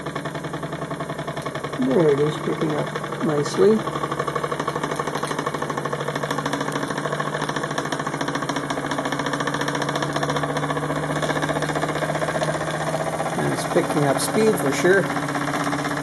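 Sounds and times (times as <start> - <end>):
steady low hum: 0.0 - 16.0
steam engine chuffing: 0.0 - 16.0.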